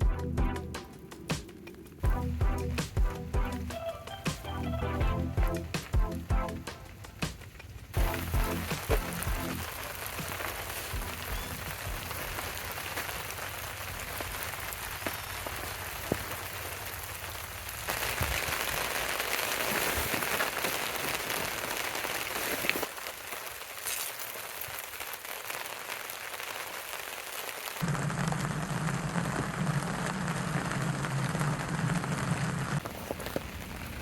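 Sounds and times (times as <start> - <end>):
rain and hail falling: 0.8 - 34.0.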